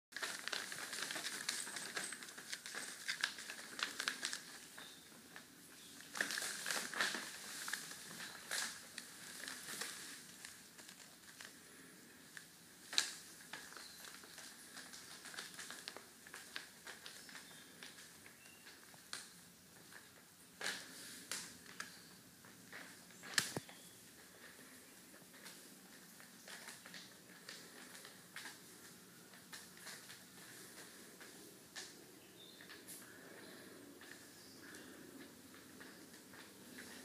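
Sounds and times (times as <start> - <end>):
plastic sheeting crinkling: 0.1 - 37.0.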